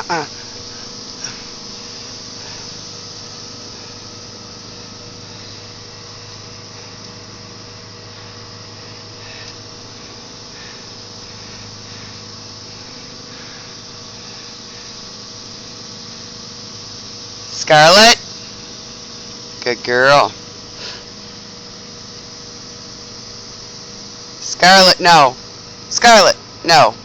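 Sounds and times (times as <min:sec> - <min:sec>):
faint mechanical hum: 0:00.0 - 0:27.0
steady background hiss: 0:00.0 - 0:27.0.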